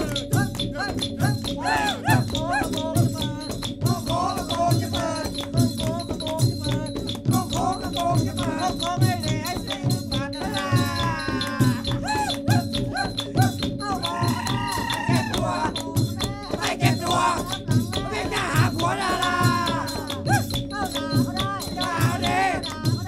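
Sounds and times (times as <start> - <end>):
background music with steady beat: 0.0 - 23.0
rattling percussion: 0.0 - 23.0.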